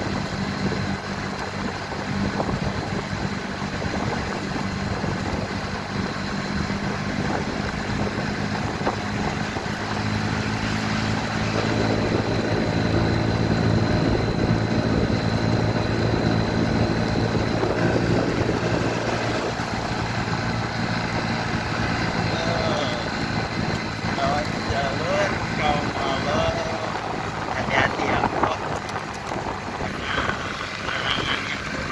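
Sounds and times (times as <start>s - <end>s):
motorcycle engine running: 0.0s - 31.9s
road and wind noise: 0.0s - 31.9s.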